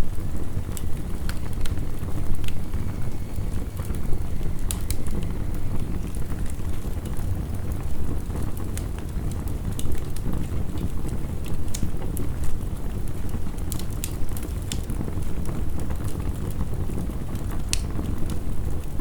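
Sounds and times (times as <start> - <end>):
heavy rain rumbling: 0.0 - 19.0
wood fire crackling: 0.0 - 19.0.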